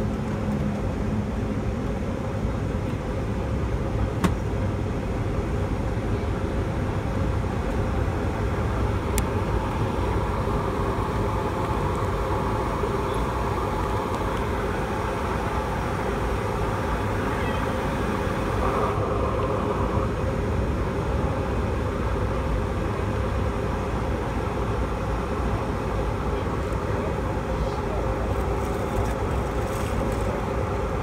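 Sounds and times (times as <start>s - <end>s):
jet engines idling in cabin: 0.0s - 31.0s.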